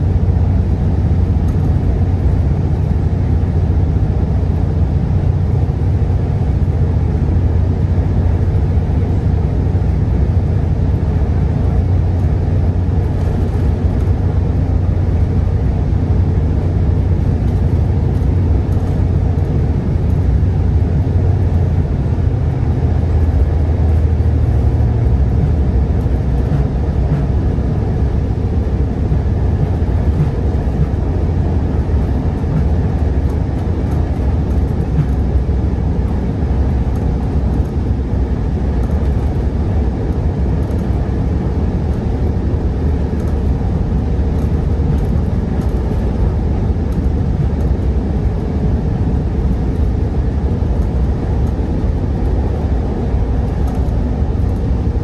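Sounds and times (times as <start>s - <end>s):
train rumbling on board: 0.0s - 55.0s.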